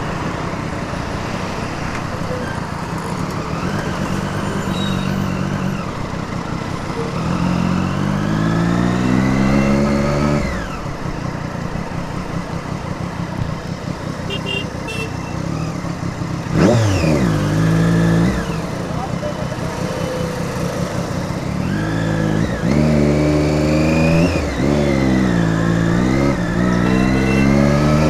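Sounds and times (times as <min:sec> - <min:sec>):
motorcycle engine accelerating: 0:00.0 - 0:28.0
road noise: 0:00.0 - 0:28.0.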